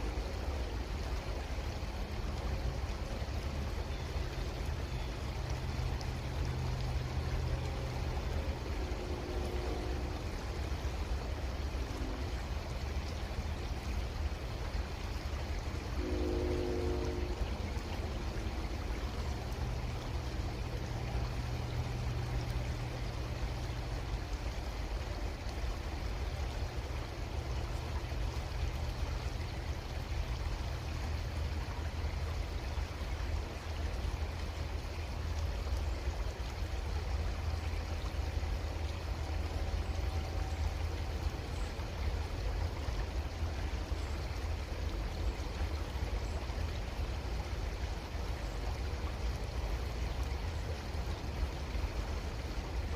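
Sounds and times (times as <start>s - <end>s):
creek water flowing: 0.0s - 52.9s
faint low hum: 0.0s - 52.9s.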